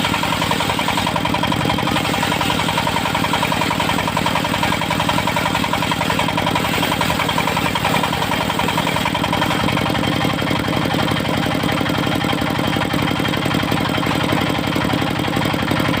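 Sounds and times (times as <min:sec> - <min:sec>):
sawmill engine running: 0:00.0 - 0:16.0.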